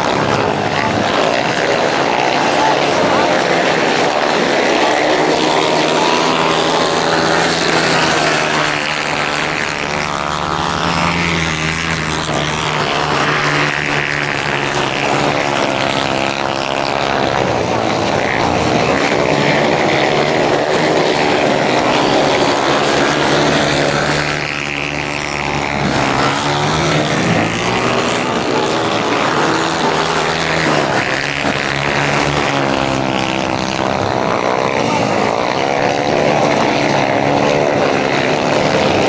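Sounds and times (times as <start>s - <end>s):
motorcycle engines racing: 0.0s - 39.0s.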